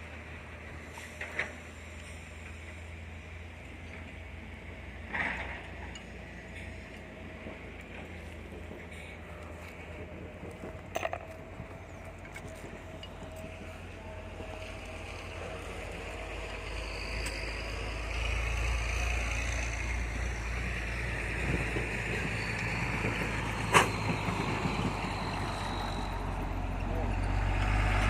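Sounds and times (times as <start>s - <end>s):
excavator engine running: 0.0s - 28.0s.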